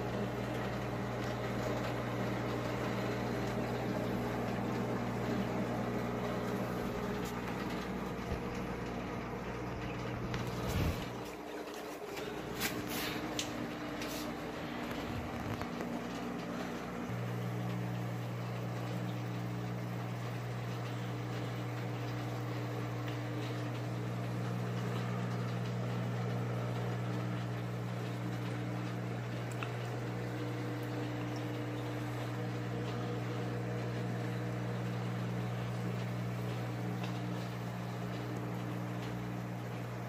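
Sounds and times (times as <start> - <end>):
aquarium equipment humming: 0.0 - 40.0.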